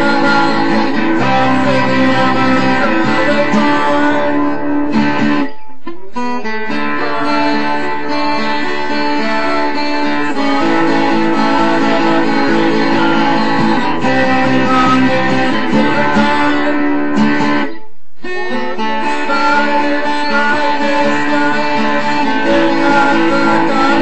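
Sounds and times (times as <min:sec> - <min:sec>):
guitar playing ringing chords: 0:00.0 - 0:24.0.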